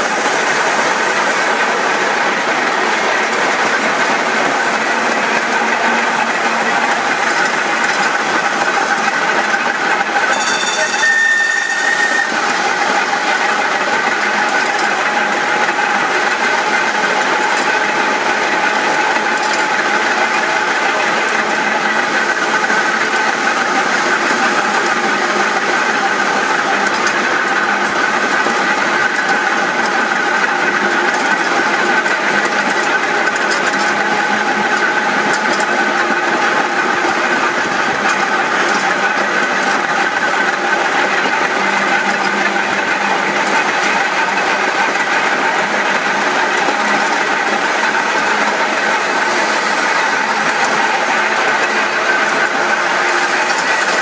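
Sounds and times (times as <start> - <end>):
tram wheels on rails: 0.0 - 54.0
traction motor whine: 2.4 - 54.0.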